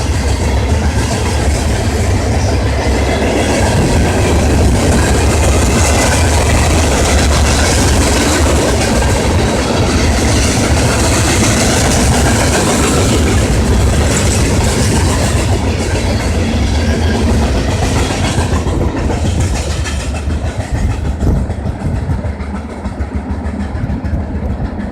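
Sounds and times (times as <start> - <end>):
train wheels rumbling and clacking: 0.0 - 24.9.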